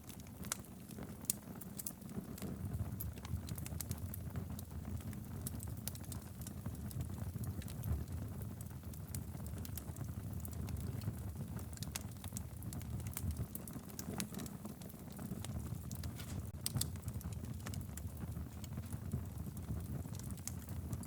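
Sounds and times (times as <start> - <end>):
fire rumbling: 0.0 - 21.0
logs crackling and popping: 0.0 - 21.0.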